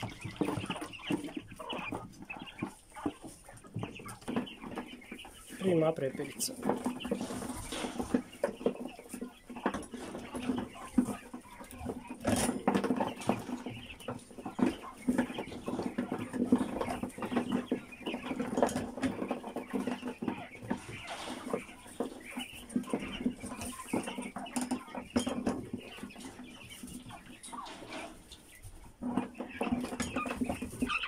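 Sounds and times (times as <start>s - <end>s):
quail clucking and calling: 0.0s - 31.0s.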